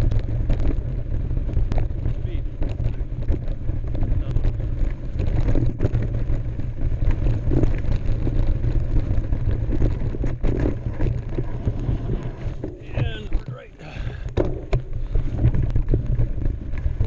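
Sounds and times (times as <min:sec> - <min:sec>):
bike clicks and rattles: 0:00.0 - 0:17.0
tyres rolling over dirt: 0:00.0 - 0:17.0
wind rumbling on microphone: 0:00.0 - 0:17.0.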